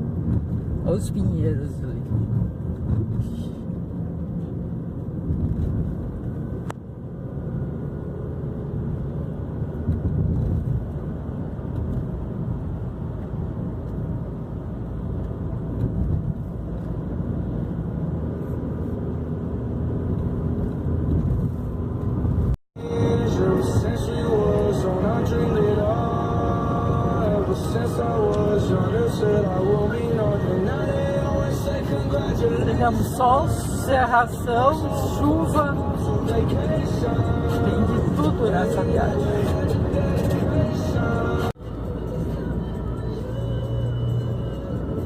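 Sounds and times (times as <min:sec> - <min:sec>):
car engine and tyre rumble: 0:00.0 - 0:45.0.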